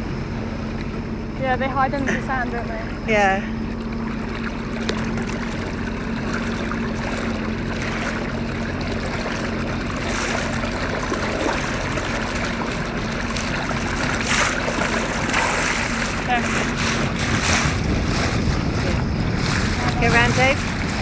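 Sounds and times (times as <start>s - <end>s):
boat motor humming: 0.0s - 21.0s
water splashing around feet: 2.8s - 21.0s.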